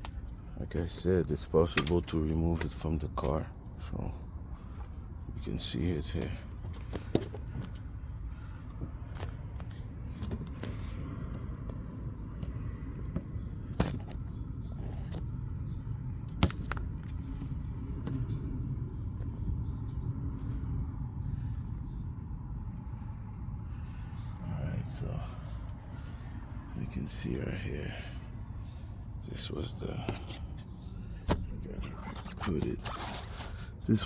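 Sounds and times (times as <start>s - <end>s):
low steady rumble: 0.0s - 34.0s.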